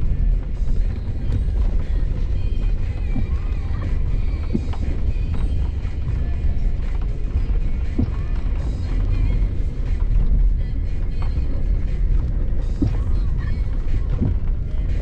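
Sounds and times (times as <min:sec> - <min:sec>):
faint music: 0:00.0 - 0:15.0
truck engine rumble: 0:00.0 - 0:15.0.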